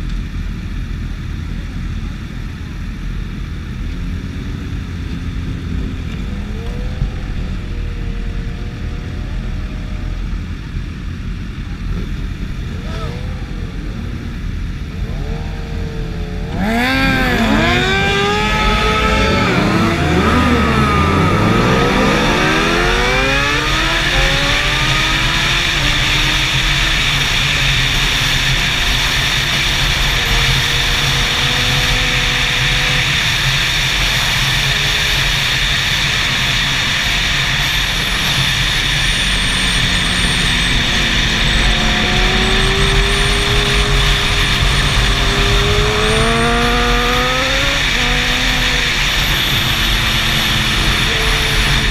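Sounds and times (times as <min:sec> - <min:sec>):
superbike engines revving: 0:01.6 - 0:51.9.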